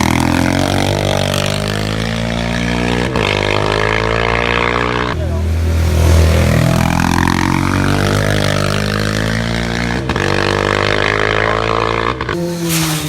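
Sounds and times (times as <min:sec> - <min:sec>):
racing motorcycle engine accelerating: 0:00.0 - 0:13.0.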